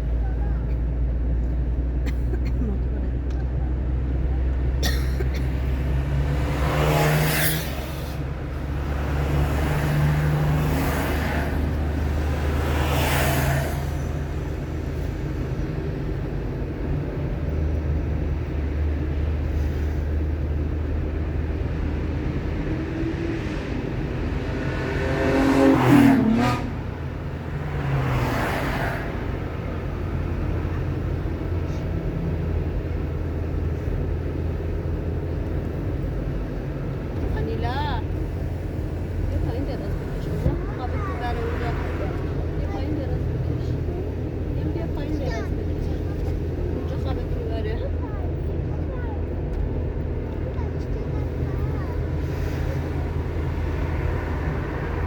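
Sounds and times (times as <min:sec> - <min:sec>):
car engine and tyre noise: 0:00.0 - 0:55.0
vehicles passing by: 0:00.0 - 0:55.0.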